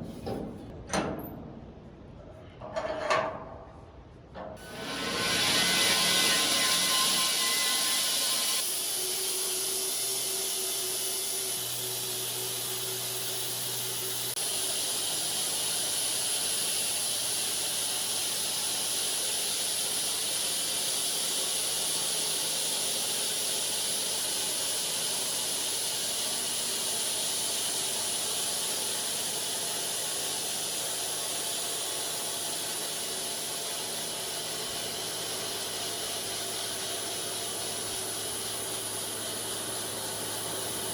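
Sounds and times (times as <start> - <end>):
machinery hissing and humming: 4.6 - 40.9.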